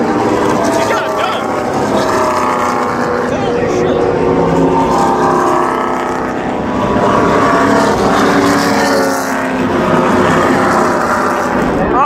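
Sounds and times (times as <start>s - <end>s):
several engines droning: 0.0s - 12.0s.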